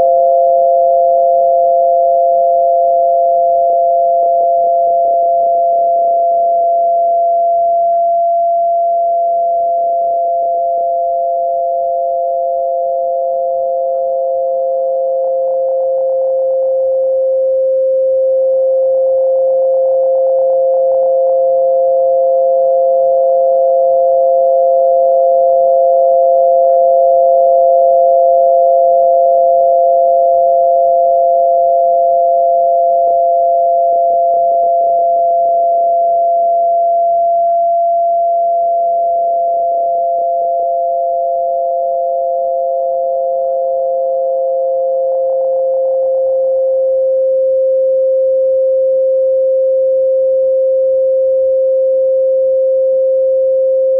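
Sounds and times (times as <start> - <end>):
steady electronic pure tones: 0.0 - 49.7.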